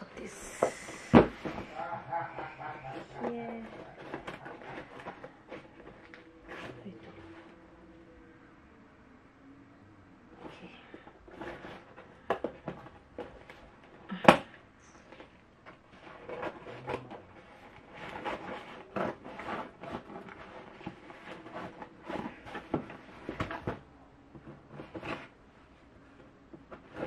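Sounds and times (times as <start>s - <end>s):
cardboard box being unpacked: 0.3s - 7.7s, 10.4s - 25.4s.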